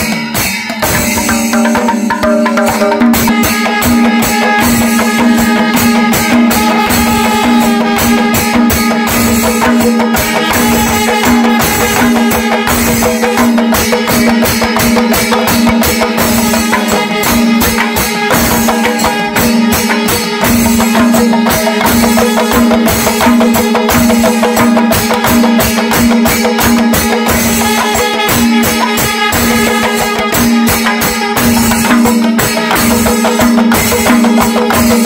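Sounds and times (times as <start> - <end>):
hand drums fast rhythm: 0.0 - 35.0
cymbal strokes: 2.7 - 35.0.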